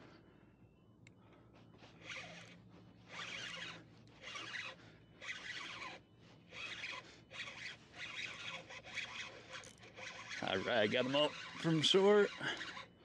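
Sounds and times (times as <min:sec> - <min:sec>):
fishing reel buzzing: 0:02.0 - 0:13.0.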